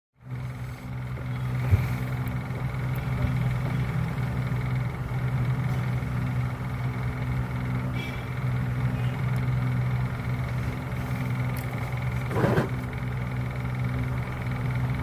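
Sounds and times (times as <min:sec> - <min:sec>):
low mechanical hum: 0:00.2 - 0:15.0.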